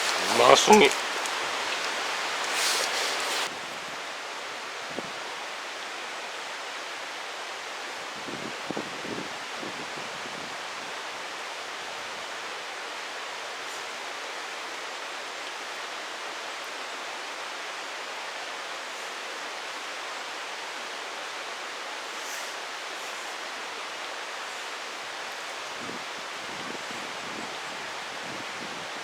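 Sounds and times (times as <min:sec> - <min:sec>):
mountain stream rushing: 0:00.0 - 0:08.4, 0:10.6 - 0:28.3.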